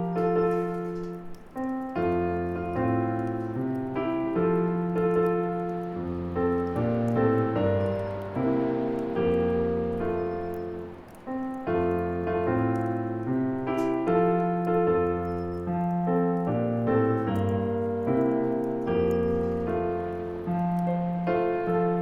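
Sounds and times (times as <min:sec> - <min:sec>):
bonfire crackling: 0:00.0 - 0:22.0
gentle piano chords: 0:00.0 - 0:22.0.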